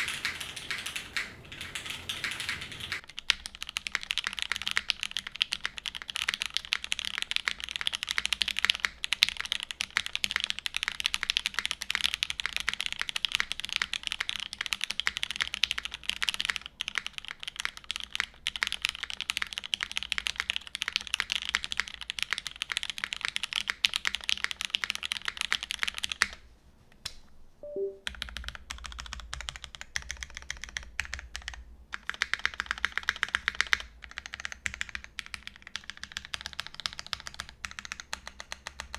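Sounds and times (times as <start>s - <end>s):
mechanical keyboard typing: 0.0s - 26.4s, 27.8s - 38.9s.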